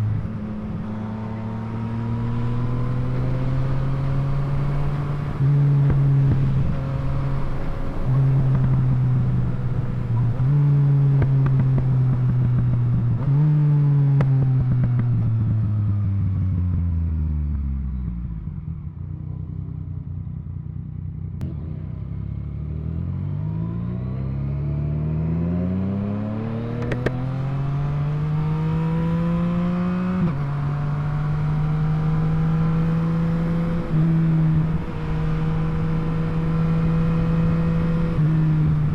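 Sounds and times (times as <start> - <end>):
motorcycle engine revving: 0.0 - 17.0, 21.4 - 38.9.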